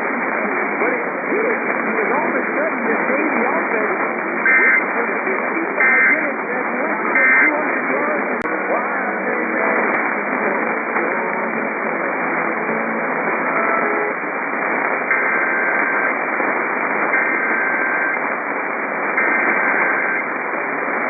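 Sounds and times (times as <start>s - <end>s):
faint audio fragments: 0.0s - 21.0s
radio static: 0.0s - 21.0s.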